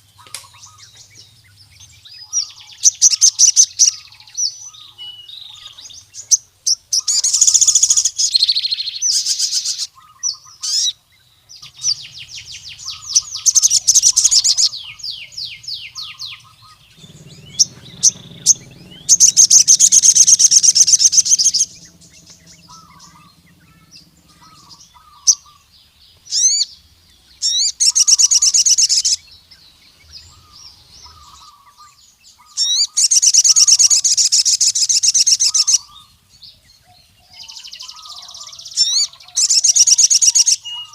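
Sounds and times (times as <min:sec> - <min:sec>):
soft bird chirps: 0:00.0 - 0:40.9
bird high-pitched trills: 0:00.2 - 0:11.0, 0:11.6 - 0:36.3, 0:37.3 - 0:40.9.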